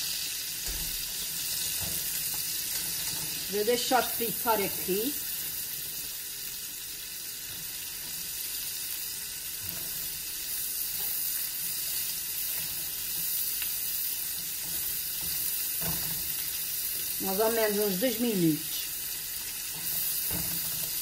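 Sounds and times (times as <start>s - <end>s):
mushrooms and onion sizzling: 0.0s - 21.0s
spatula stirring in a wok: 0.1s - 4.2s, 5.1s - 17.2s, 18.8s - 21.0s.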